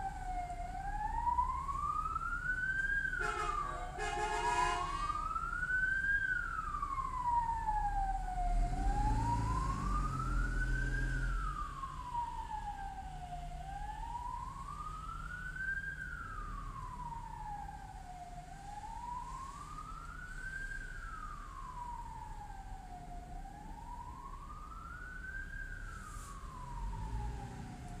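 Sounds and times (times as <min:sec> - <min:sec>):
siren wailing: 0:00.0 - 0:28.0
vehicle engine rumble: 0:00.0 - 0:28.0.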